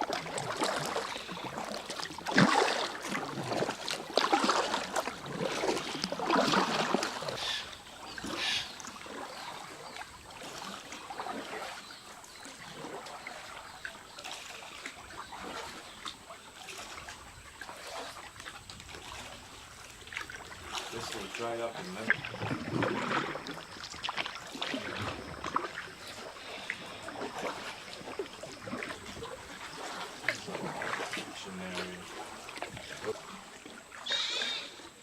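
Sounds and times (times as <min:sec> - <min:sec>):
paddle strokes splashing water: 0:00.0 - 0:35.0
water trickling and lapping: 0:00.0 - 0:35.0.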